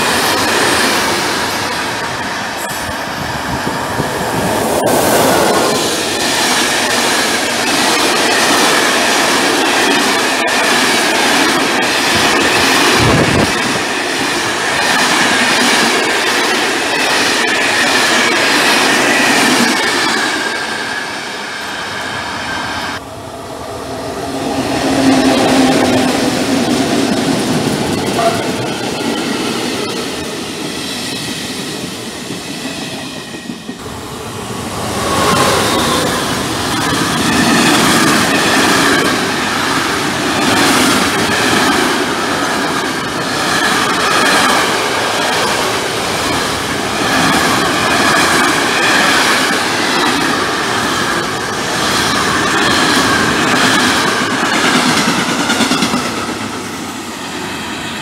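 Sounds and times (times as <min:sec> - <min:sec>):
passenger train humming past: 0:00.0 - 0:58.0.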